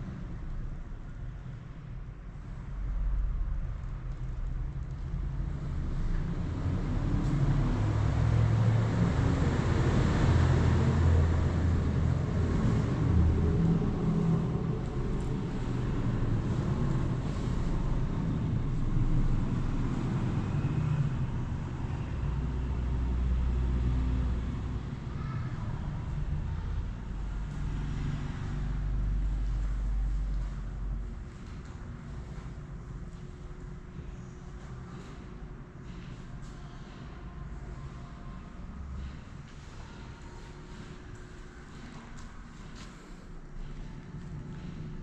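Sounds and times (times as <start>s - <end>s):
road traffic rumble: 0.0s - 45.0s.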